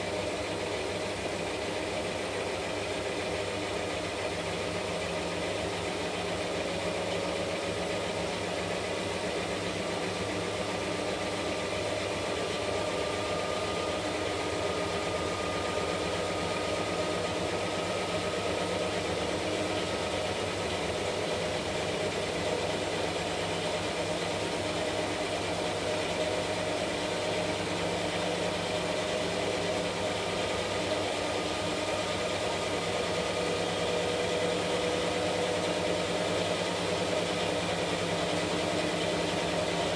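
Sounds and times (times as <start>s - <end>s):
washing machine motor hum: 0.2s - 39.9s.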